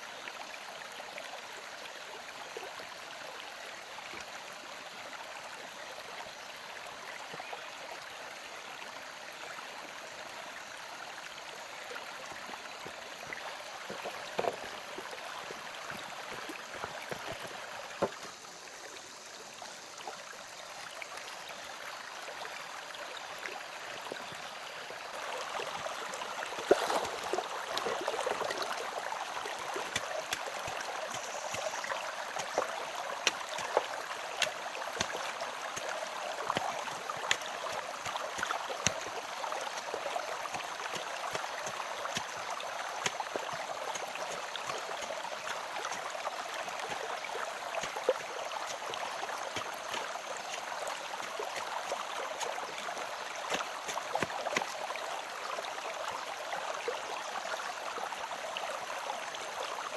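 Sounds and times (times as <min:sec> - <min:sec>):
running water rushing: 0:09.9 - 0:59.9.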